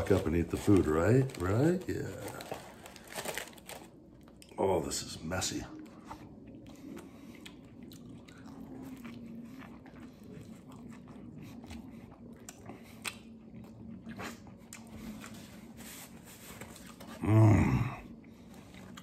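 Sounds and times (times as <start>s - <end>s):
man chewing food: 0.0s - 4.6s, 5.7s - 19.0s.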